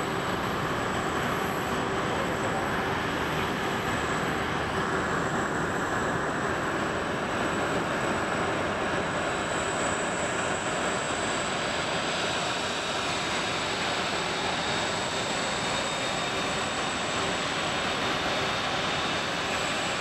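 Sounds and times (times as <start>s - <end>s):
high jet whine: 0.0s - 20.0s.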